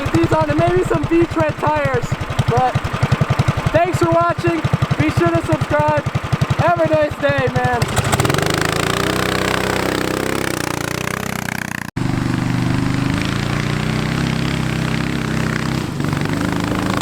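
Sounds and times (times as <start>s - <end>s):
small kart engine running: 0.0s - 17.0s.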